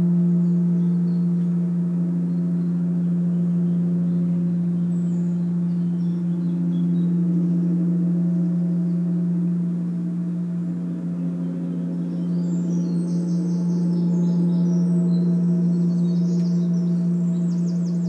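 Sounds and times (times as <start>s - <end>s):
gong ringing: 0.0s - 18.0s.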